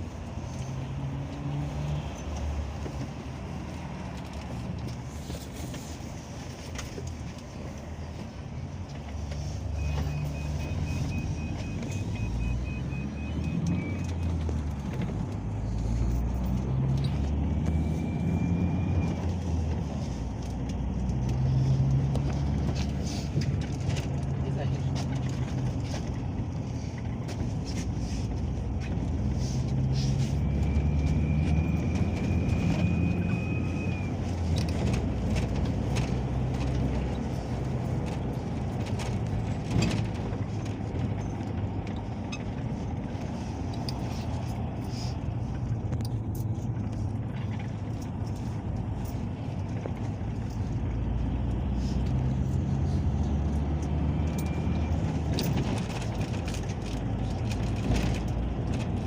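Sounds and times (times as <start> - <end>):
road rumble: 0.0 - 59.0
vehicle engine drone: 0.0 - 59.0
vehicle body rattling: 2.2 - 59.0.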